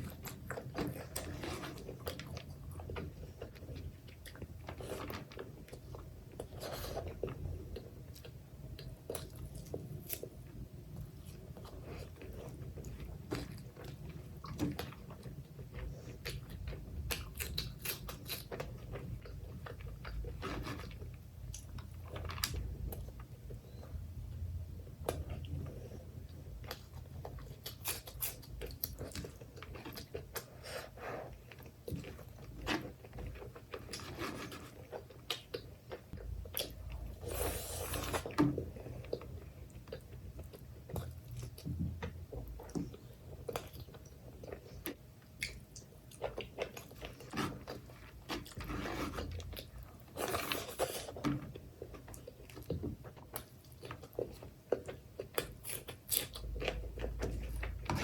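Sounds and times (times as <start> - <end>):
chewing and biting food: 0.0 - 23.9, 25.0 - 58.0.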